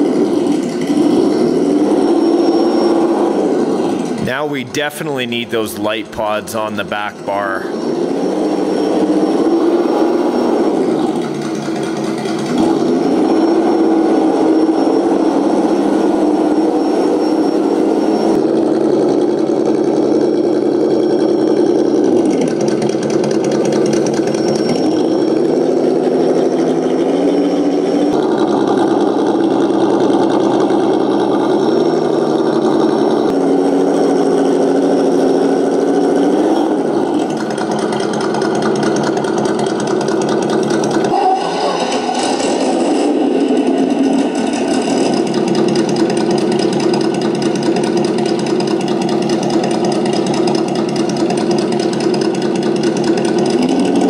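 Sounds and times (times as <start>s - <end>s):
synthesized truck engine: 0.0s - 54.0s.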